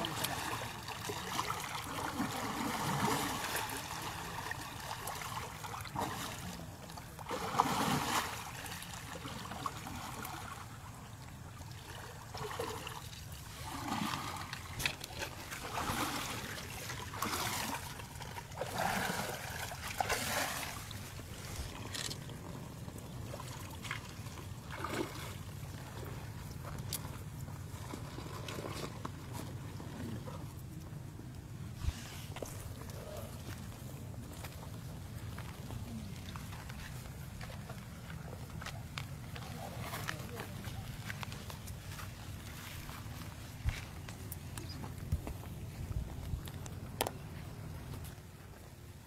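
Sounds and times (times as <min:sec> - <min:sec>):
water sloshing and splashing: 0:00.0 - 0:49.0.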